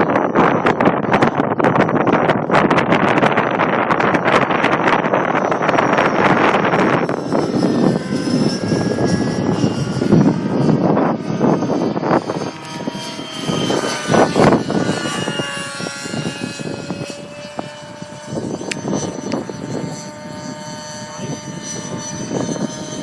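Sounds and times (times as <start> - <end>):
model helicopter engine whining: 0.0 - 23.0
wind gusting on microphone: 0.0 - 23.0.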